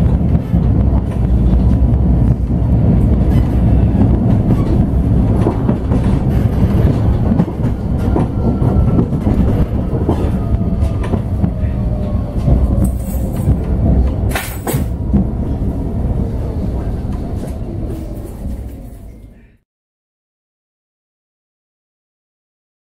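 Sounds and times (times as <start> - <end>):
tram rumble: 0.0 - 19.6.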